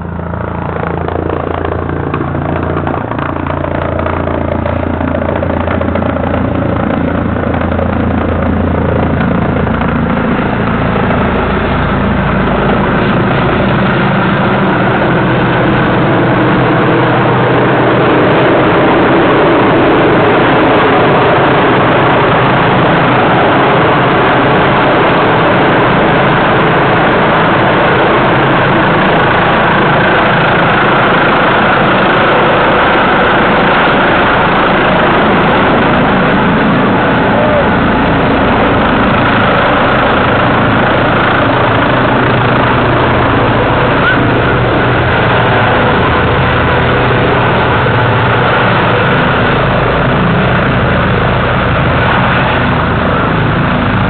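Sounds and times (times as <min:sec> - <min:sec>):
helicopter rotor and turbine noise: 0:00.0 - 0:54.0.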